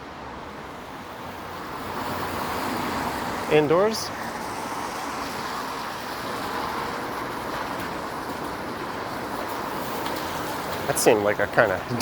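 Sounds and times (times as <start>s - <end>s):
passing vehicles: 0.0s - 12.0s
tyres hissing on wet road: 0.2s - 12.0s.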